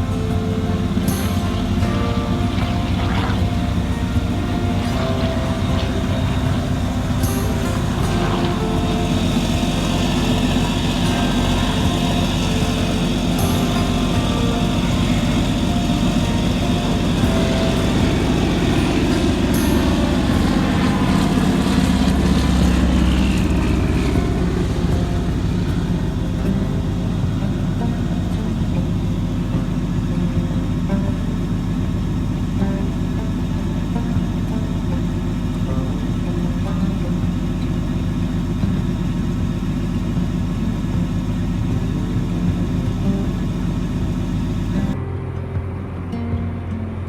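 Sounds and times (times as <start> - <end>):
faint falling whine: 0.0 - 45.0
large engine droning: 0.0 - 47.0.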